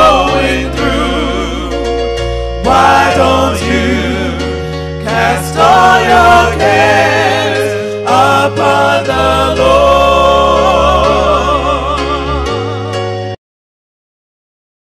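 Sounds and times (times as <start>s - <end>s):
gospel singing with vibrato: 0.0s - 13.4s
held bass notes: 0.0s - 13.4s.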